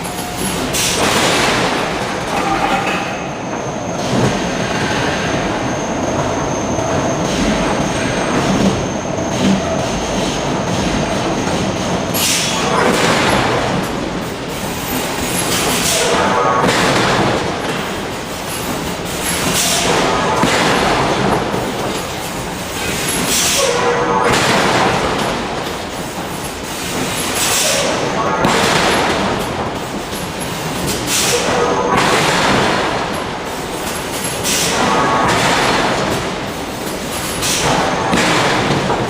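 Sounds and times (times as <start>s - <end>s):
heavy machinery running: 0.0s - 39.0s.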